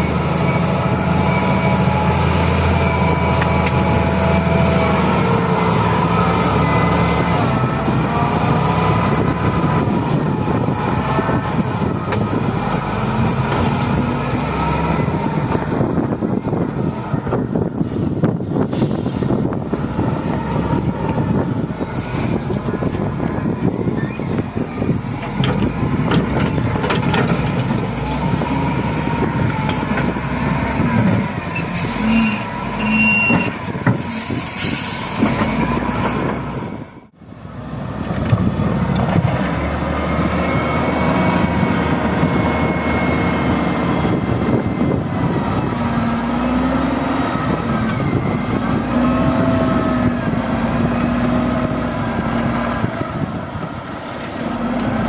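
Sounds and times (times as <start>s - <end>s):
heavy diesel engines revving: 0.0s - 55.0s.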